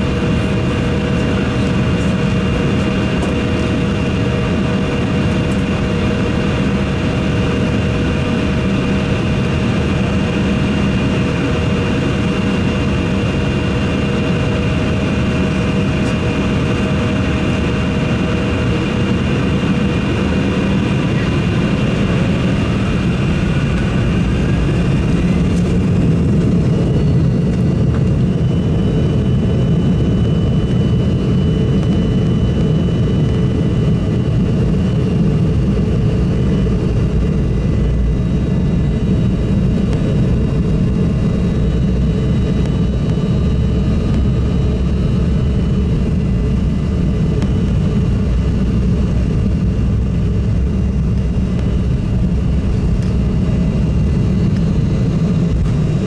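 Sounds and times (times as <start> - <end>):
jet engines whining inside cabin: 0.0 - 56.0.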